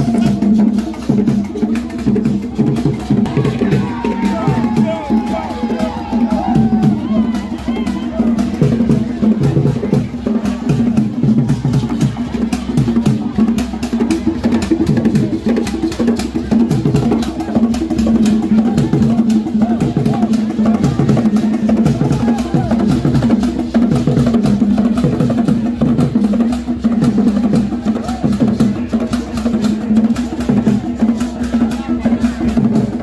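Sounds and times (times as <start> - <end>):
fast percussion strikes: 0.0 - 33.0.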